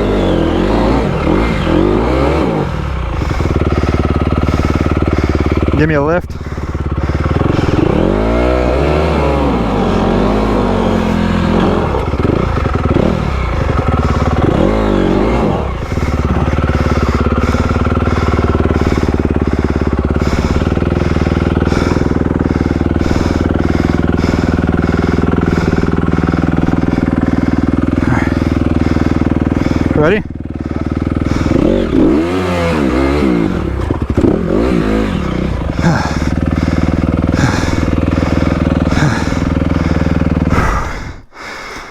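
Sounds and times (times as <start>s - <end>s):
dirt bike engine revving: 0.0s - 41.2s.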